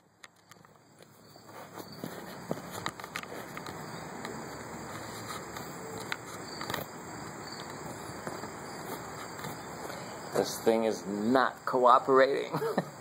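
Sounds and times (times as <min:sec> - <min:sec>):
handling noise on microphone: 0:00.0 - 0:10.8
background hiss: 0:00.0 - 0:13.0.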